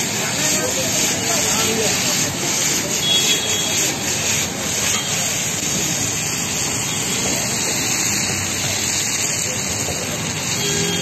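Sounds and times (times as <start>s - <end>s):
dumplings sizzling in oil: 0.1s - 11.0s.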